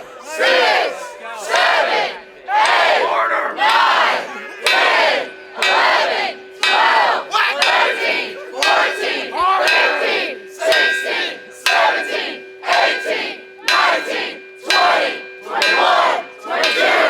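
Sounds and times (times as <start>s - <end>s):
crowd shouting and cheering: 0.0s - 17.0s
large bell ringing: 0.5s - 17.0s.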